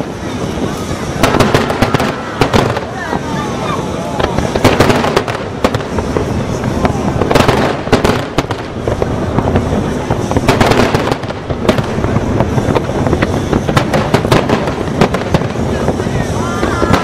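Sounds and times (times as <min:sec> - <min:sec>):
continuous rumble: 0:00.0 - 0:17.0
fireworks crackle: 0:00.0 - 0:17.0.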